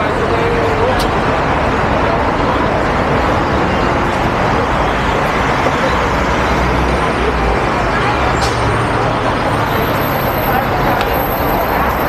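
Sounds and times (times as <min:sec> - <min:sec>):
cars and buses passing: 0:00.0 - 0:12.0.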